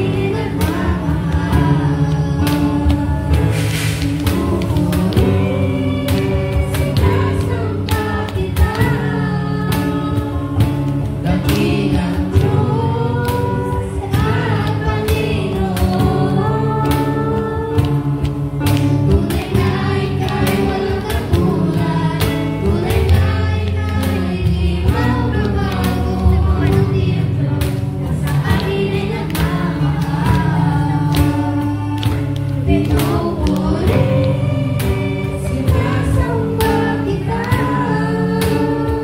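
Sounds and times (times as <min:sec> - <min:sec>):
girl and boy singing: 0:00.0 - 0:39.0
steady percussive beat: 0:00.0 - 0:39.0.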